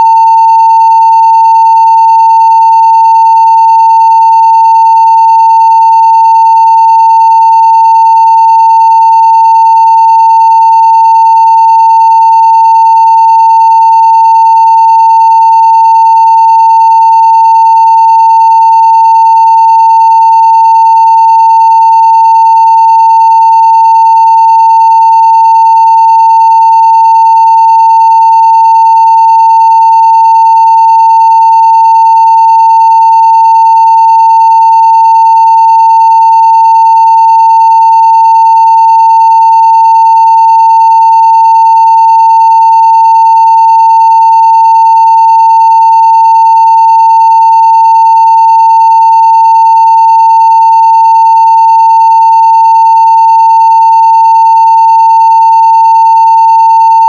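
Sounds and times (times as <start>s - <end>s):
sine test tone: 0.0s - 57.0s.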